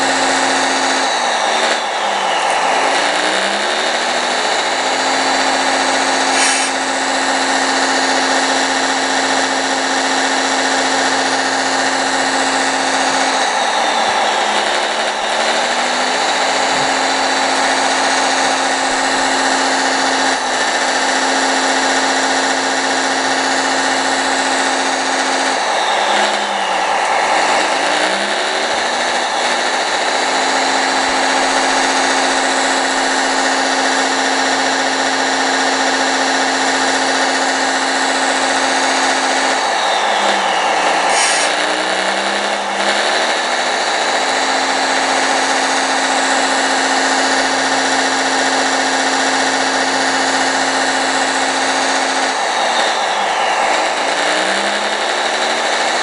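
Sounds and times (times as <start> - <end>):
electric motor and pump whine: 0.0 - 56.0
electronic diesel engine sound: 0.0 - 56.0.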